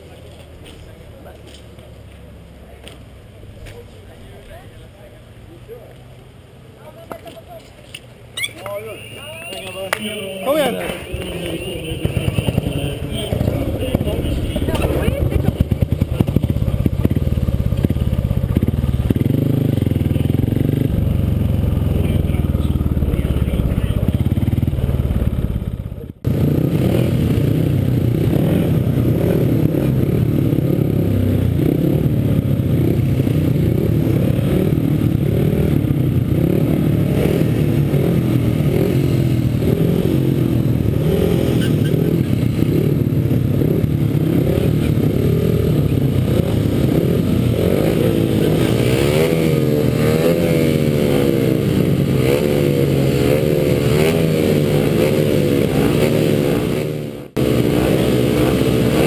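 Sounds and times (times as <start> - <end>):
motorcycle engines running: 0.0 - 59.0
motorcycle throttle blips: 7.1 - 30.4, 32.4 - 58.6.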